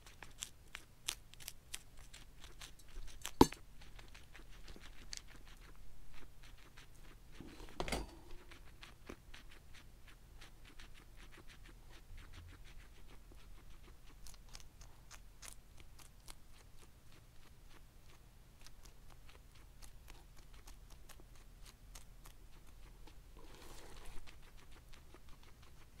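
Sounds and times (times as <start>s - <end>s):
guinea pig chewing leafy greens: 0.0s - 26.0s.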